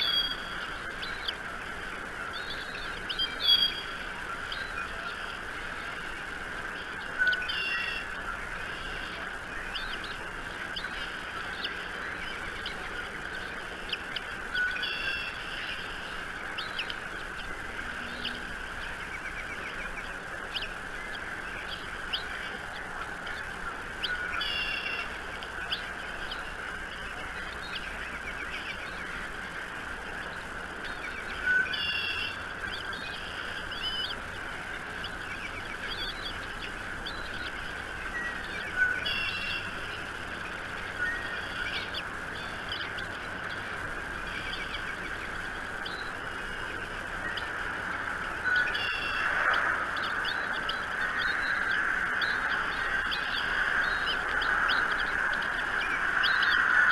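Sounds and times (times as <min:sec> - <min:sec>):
loud long bird call: 0:00.0 - 0:56.9
outdoor background noise: 0:00.0 - 0:56.9
wild birds chirping: 0:00.0 - 0:56.9.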